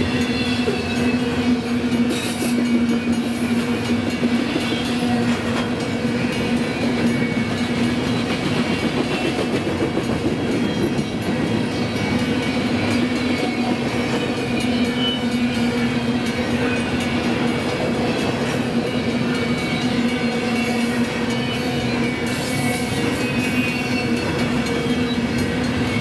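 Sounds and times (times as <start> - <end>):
freight train rolling past: 0.0 - 26.0
wheels clickety-clack: 0.2 - 26.0.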